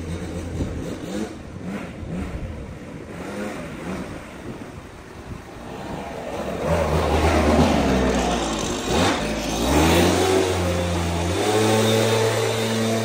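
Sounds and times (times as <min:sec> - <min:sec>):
engine revving: 0:00.0 - 0:04.8, 0:05.5 - 0:13.0.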